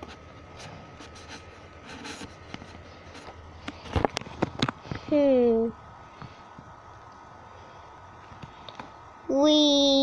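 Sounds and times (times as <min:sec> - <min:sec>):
faint steady hum: 0:00.0 - 0:10.0
thin steady whine: 0:00.0 - 0:10.0.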